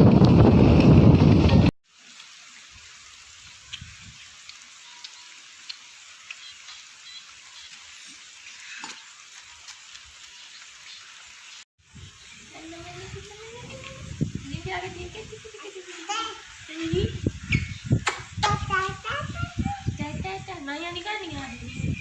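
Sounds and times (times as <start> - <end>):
rain falling: 0.0 - 21.7.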